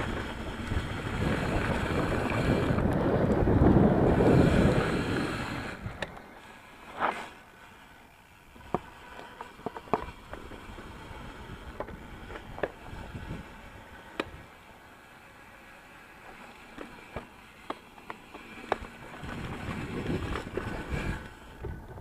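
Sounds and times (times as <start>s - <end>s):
tyres and wind rumble: 0.0s - 7.2s, 8.1s - 15.4s, 17.0s - 22.0s
bike clicks and rattles: 0.0s - 22.0s.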